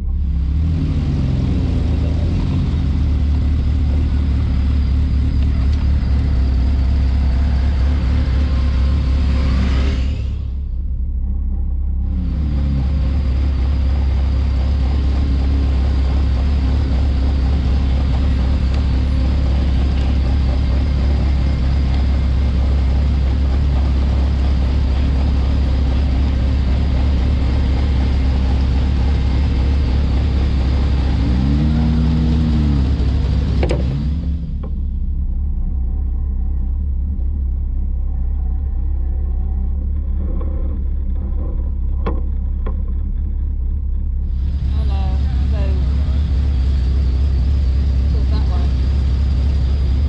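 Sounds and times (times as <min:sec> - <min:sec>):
car engine rumbling at low revs: 0:00.0 - 0:50.0.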